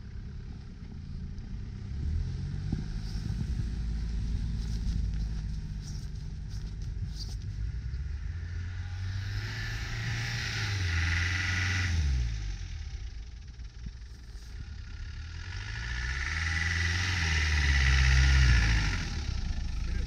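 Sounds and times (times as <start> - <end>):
off-road vehicle engines driving: 0.0 - 20.0.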